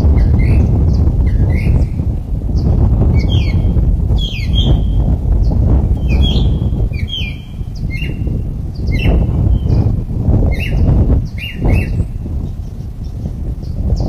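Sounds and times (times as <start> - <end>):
bird chirping: 0.0 - 14.0
low steady rumble: 0.0 - 14.0.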